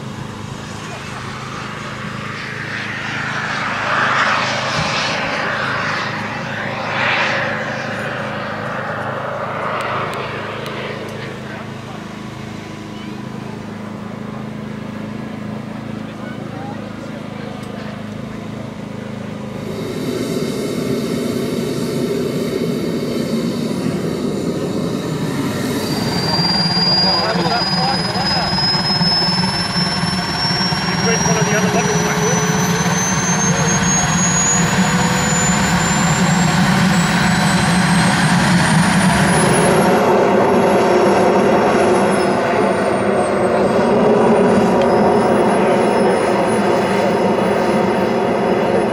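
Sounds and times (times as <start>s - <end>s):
model jet engine rushing: 0.0s - 48.9s.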